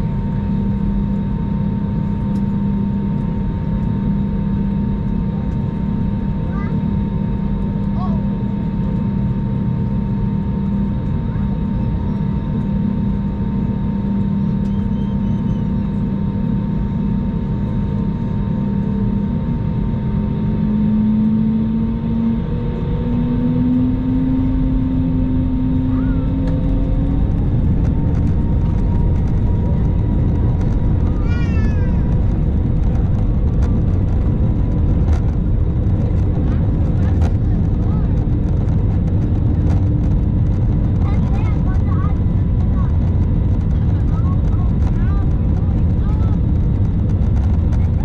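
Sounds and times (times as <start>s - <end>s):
airflow rumble: 0.0s - 48.0s
jet engine roar: 0.0s - 48.0s.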